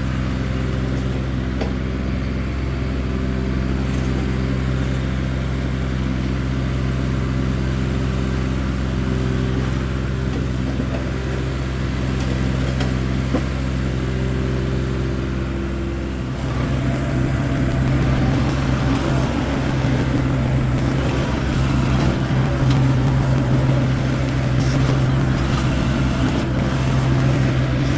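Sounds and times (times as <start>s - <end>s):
engine running: 0.0s - 27.9s.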